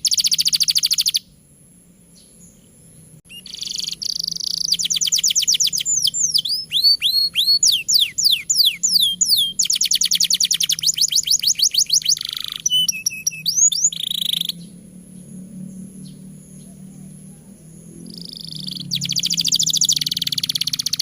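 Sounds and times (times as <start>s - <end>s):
canary singing: 0.0s - 1.3s, 2.2s - 21.0s.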